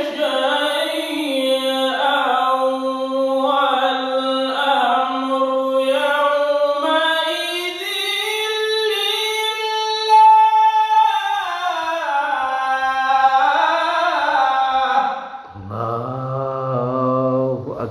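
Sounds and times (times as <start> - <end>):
man reciting melodically: 0.0 - 17.9.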